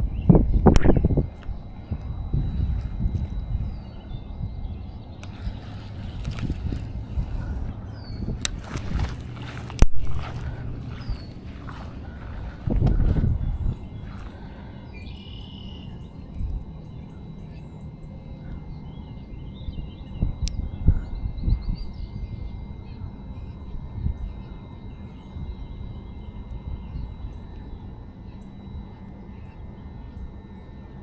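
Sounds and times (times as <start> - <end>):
faint bird chirps: 0.0 - 31.0
faint steady high whine: 0.0 - 31.0
wind rumble on microphone: 0.0 - 31.0.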